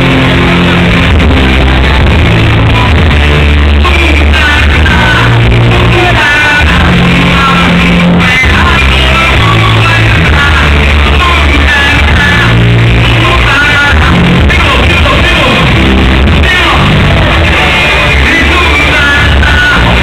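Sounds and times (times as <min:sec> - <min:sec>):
bass line: 0:00.0 - 0:20.0
loud amplified music with singer: 0:00.0 - 0:20.0.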